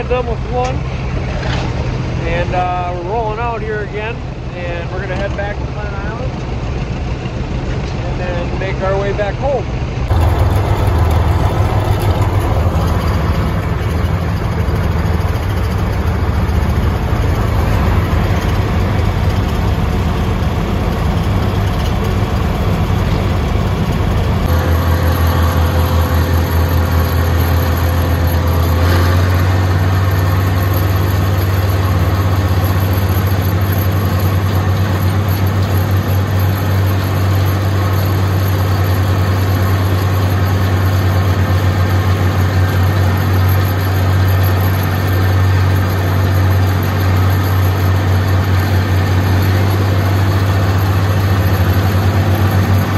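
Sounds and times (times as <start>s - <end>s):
tractor engines running: 0.0s - 52.9s.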